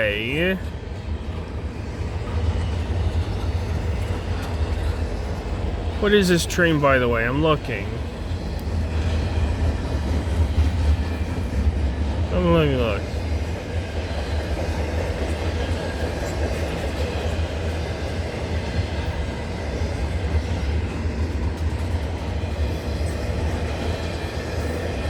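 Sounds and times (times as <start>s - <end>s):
train wheels rolling on rails: 0.0s - 25.0s.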